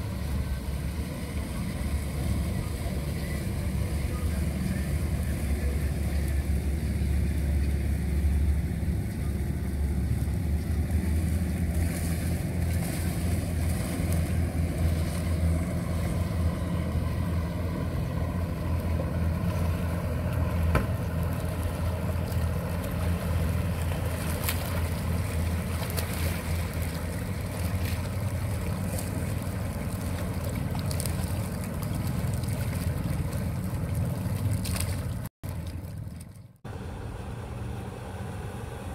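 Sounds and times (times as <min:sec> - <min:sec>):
outboard motor droning: 0:00.0 - 0:38.9.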